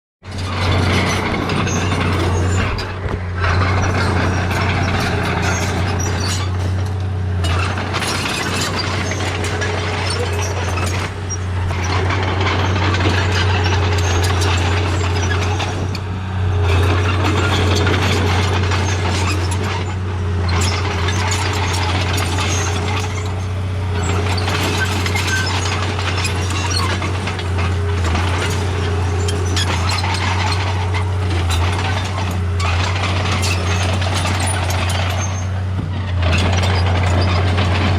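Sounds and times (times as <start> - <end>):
gears and tracks clattering: 0.2 - 37.9
toy bulldozer motor hum: 7.5 - 37.9.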